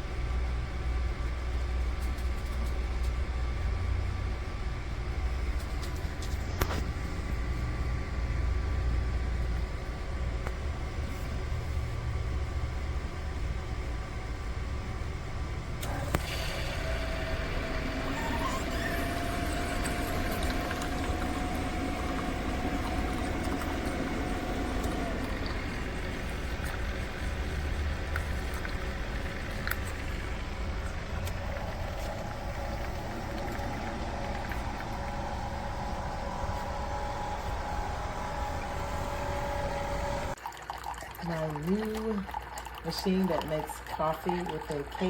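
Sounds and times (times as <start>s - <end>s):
coffee maker rumbling hiss: 0.0s - 40.4s
faint whine: 0.0s - 40.4s.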